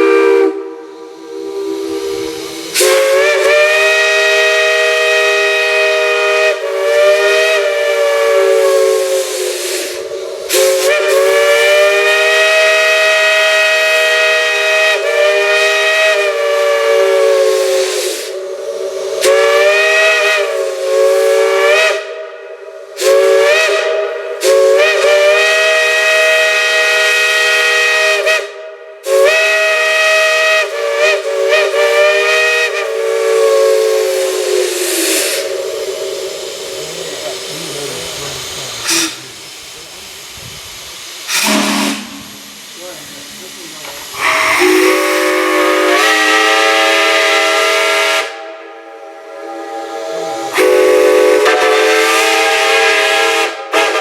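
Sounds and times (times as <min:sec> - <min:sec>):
steam whistle blasts: 0:00.0 - 0:37.4, 0:38.8 - 0:39.3, 0:41.3 - 0:42.8, 0:44.1 - 0:54.0
steam hiss: 0:00.0 - 0:54.0.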